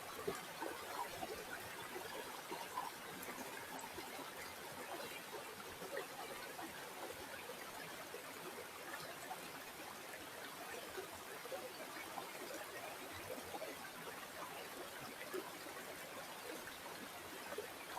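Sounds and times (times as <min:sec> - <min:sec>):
river water flowing: 0:00.0 - 0:17.9.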